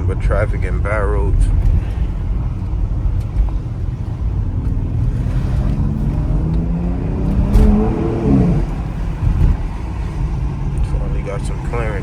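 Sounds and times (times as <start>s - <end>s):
car engine accelerating: 0.0s - 12.0s
low road rumble: 0.0s - 12.0s.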